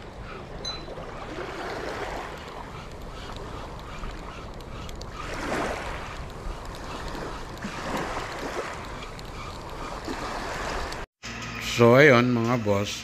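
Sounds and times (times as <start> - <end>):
small waves washing on shore: 0.0 - 11.1
wind: 0.0 - 13.0.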